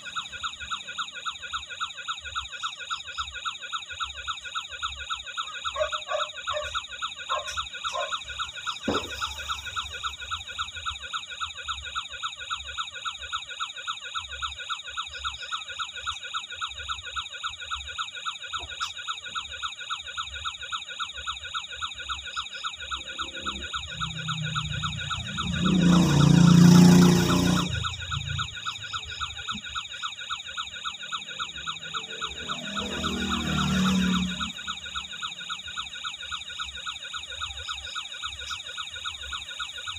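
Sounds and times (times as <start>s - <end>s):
toy siren warbling: 0.0s - 39.9s.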